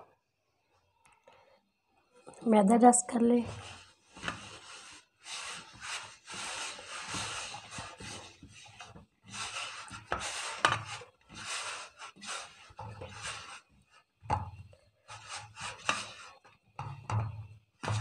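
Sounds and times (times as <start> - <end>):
dough rubbing on metal plate: 3.4 - 18.0.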